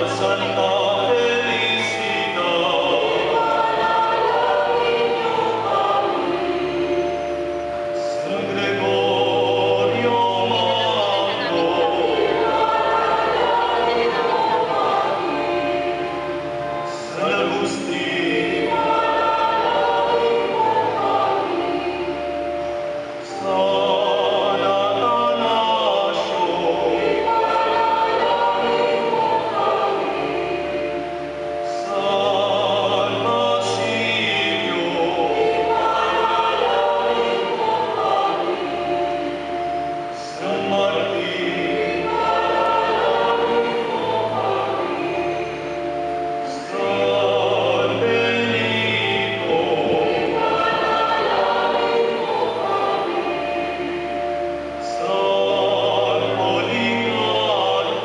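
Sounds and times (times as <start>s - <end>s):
choir singing a hymn: 0.0s - 58.0s
low accompanying notes: 0.0s - 58.0s.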